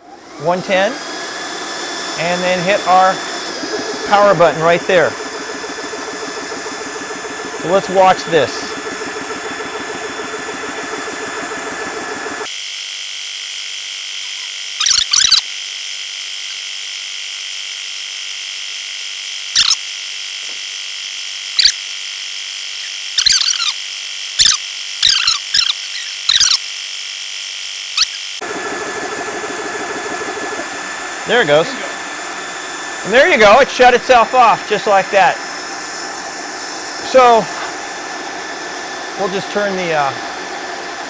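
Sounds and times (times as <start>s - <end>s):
electric compressor running: 0.0s - 41.0s
high steady whine with chirps: 0.0s - 41.0s.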